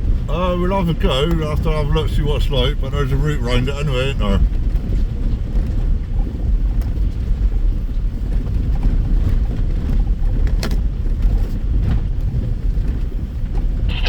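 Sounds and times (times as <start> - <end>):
vehicle rumbling off-road: 0.0 - 14.0.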